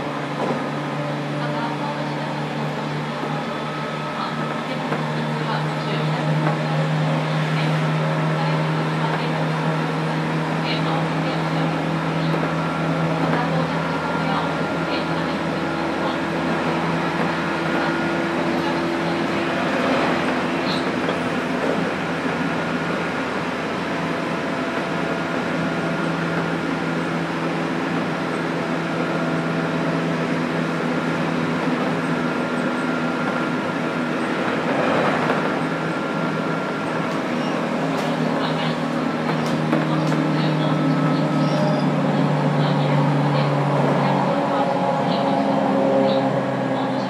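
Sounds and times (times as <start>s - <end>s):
traction motor hum: 0.0s - 47.0s
train wheels rolling on rail: 0.0s - 47.0s.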